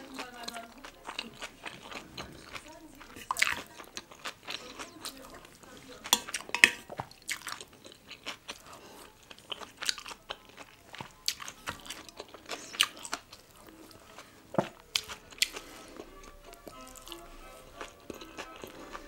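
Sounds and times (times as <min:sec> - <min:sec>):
chewing with crisp crunches: 0:00.0 - 0:19.0.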